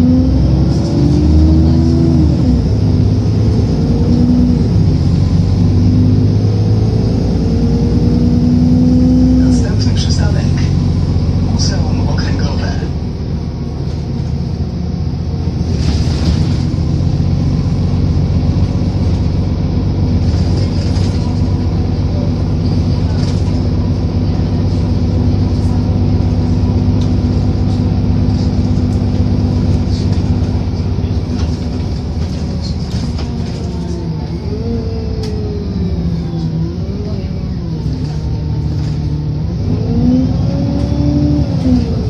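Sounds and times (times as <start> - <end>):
bus engine drone: 0.0 - 42.0.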